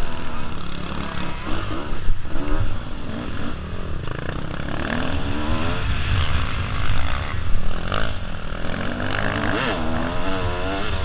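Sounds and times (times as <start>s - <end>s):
motorcycle engine revving: 0.0s - 11.0s
wind rumble on microphone: 1.0s - 11.0s.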